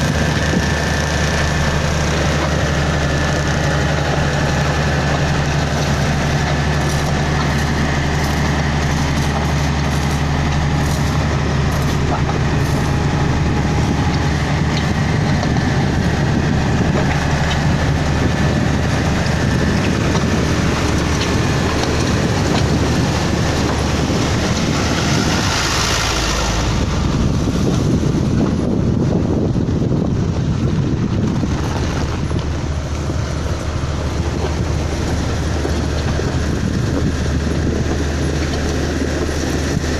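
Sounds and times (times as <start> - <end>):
broad rush of noise: 0.0 - 39.9
diesel engine running: 0.0 - 39.9.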